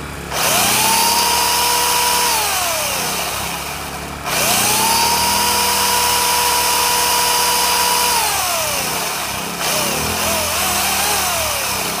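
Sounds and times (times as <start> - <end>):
electric chainsaw motor whining: 0.0 - 12.0
generator engine running: 0.0 - 12.0.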